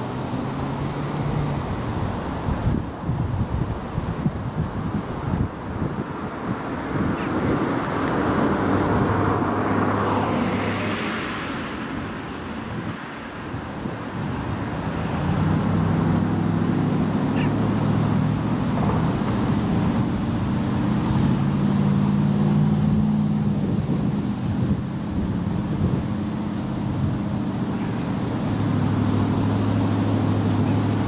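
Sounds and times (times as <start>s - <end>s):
vehicle passing with hiss: 0.0s - 31.0s.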